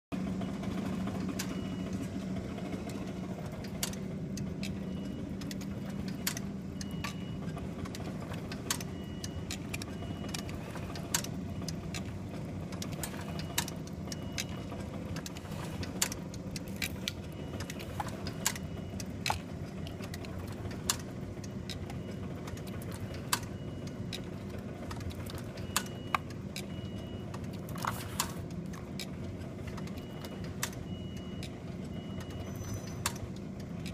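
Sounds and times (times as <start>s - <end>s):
motor hum: 0.1s - 33.9s.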